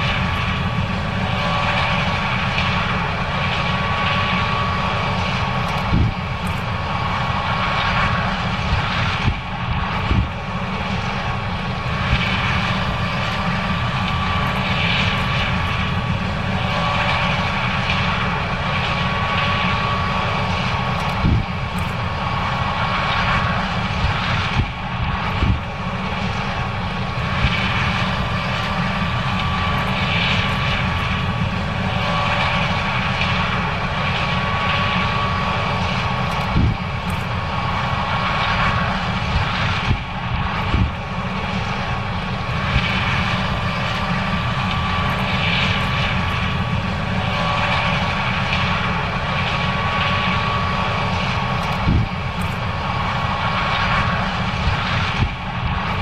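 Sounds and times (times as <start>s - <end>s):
combine harvester drone: 0.0s - 56.0s
high machine whine: 0.0s - 56.0s.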